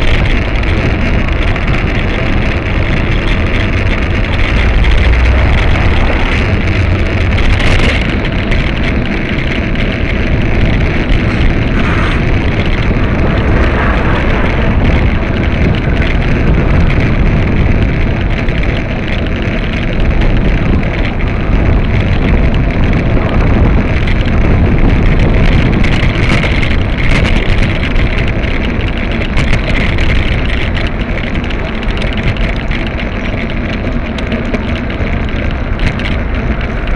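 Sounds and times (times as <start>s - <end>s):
traffic engines running: 0.0s - 36.9s
wind rumble on microphone: 0.0s - 36.9s.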